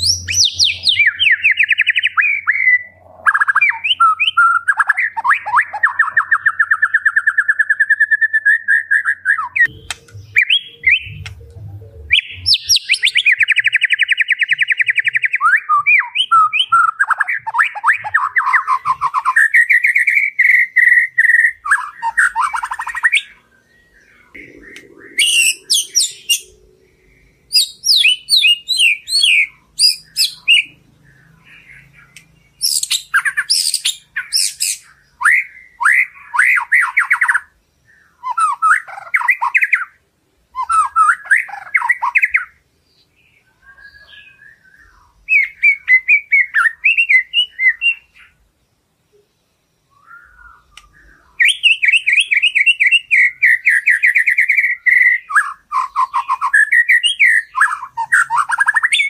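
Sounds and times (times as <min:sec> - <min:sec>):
bird singing whistles and trills: 0:00.0 - 0:48.4, 0:49.1 - 0:59.0.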